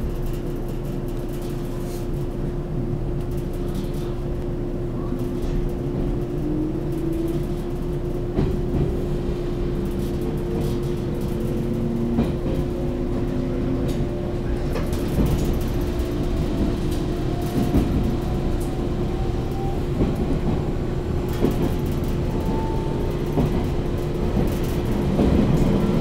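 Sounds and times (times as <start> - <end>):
constant hum: 0.0 - 26.0
train low rumble: 0.0 - 26.0.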